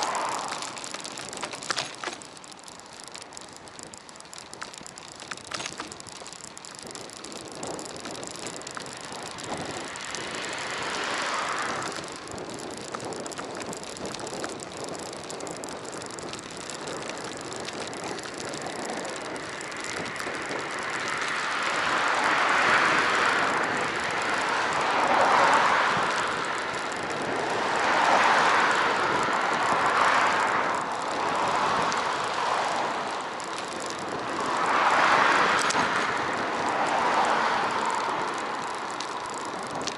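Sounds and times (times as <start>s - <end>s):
bicycle tyres rushing: 0.0s - 39.9s
wind noise: 0.0s - 39.9s.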